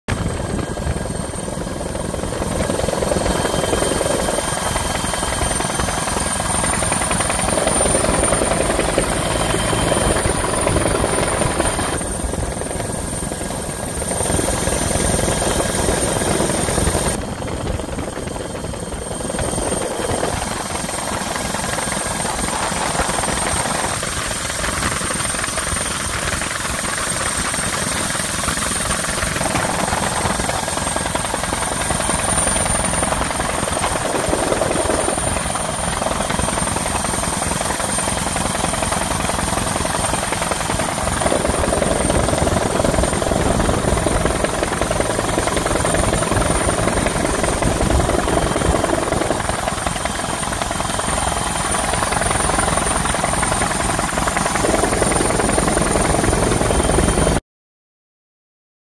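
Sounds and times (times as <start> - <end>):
helicopter rotor and engine: 0.0 - 57.4.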